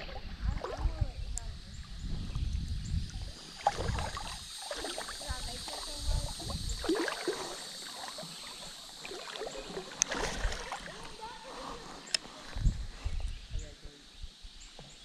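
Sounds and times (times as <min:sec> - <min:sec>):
water splashing in a creek: 0:00.0 - 0:13.0.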